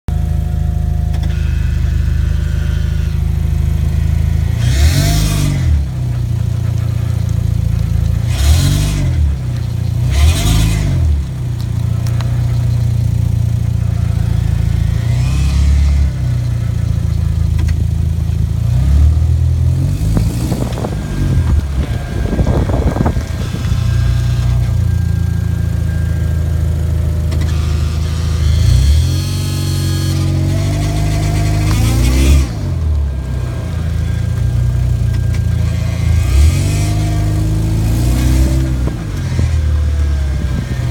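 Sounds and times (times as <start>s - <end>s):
car engine running: 0.1s - 40.9s.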